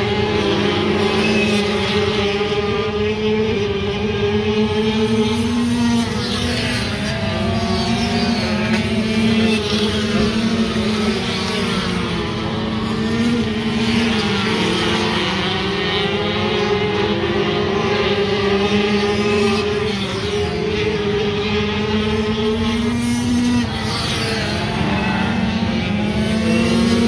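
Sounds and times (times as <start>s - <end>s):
racing motorcycles revving: 0.0s - 27.0s.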